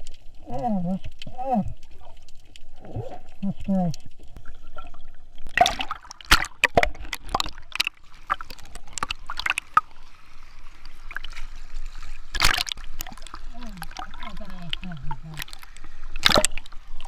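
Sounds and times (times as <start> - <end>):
water gurgling: 0.0 - 17.0
water sloshing and splashing: 0.0 - 17.0.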